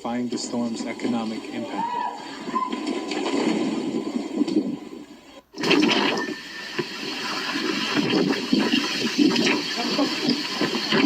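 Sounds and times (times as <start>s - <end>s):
turbulent rushing water: 0.7s - 11.0s.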